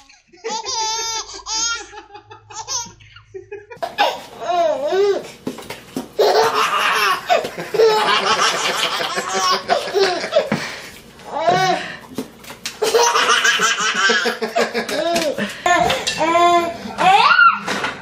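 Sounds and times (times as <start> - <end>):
baby laughing: 0.0 - 5.3, 6.2 - 10.6, 12.8 - 17.6.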